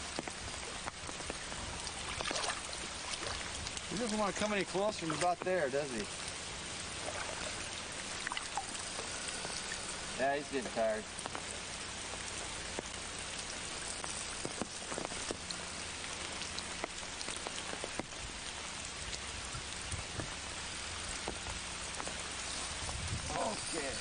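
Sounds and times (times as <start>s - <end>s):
rain falling on a river: 0.0s - 24.0s.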